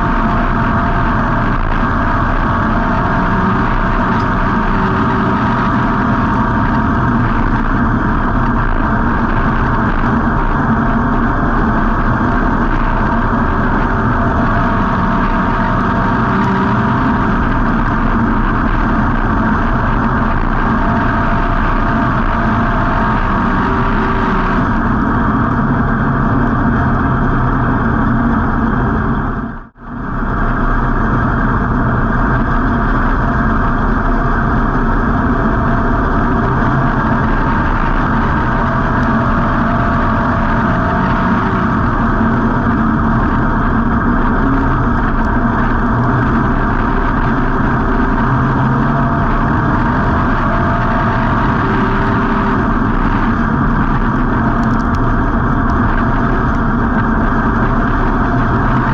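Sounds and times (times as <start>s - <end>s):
race car engine running hard: 0.0s - 58.9s.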